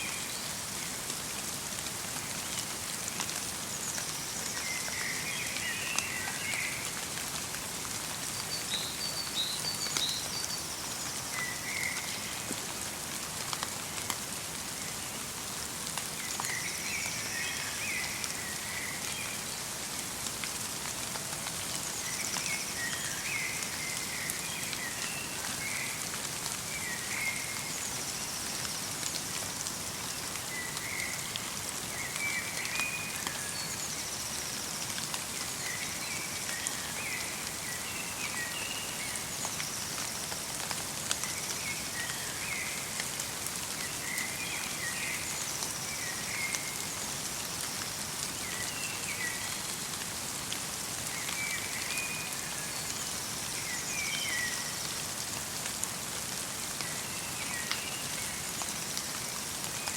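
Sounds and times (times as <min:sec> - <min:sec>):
light rain pattering: 0:00.0 - 0:59.9.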